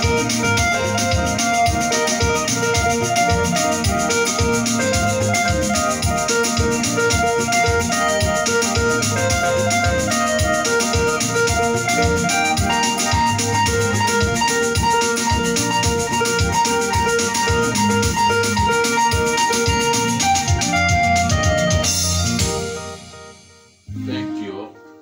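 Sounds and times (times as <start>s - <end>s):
drum machine beat: 0.0s - 24.4s
electronic keyboard melody: 0.0s - 25.0s.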